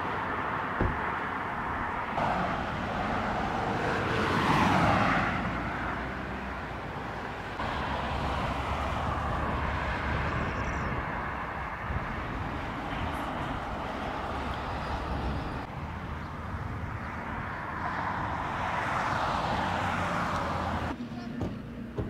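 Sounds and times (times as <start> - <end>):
car passing close: 0.0 - 21.0
road traffic noise: 0.0 - 22.0.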